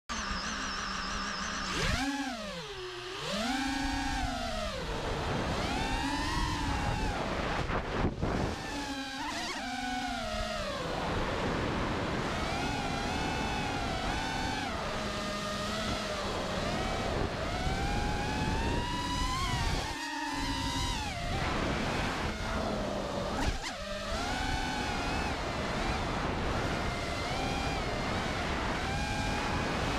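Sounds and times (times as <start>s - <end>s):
drone motors whining: 0.1s - 29.9s
wind noise on microphone: 1.7s - 29.9s.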